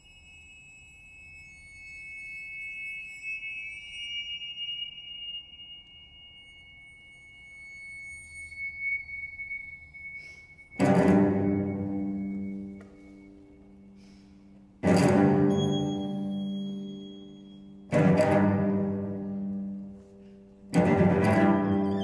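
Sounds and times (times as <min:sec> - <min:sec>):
finger cymbals ringing: 0:00.0 - 0:22.0.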